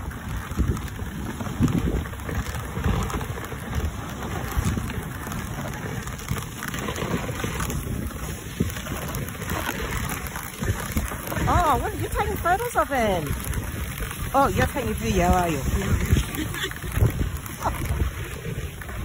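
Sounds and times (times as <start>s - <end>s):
sled runners scraping on snow: 0.0s - 19.0s
wind buffeting microphone: 0.0s - 19.0s.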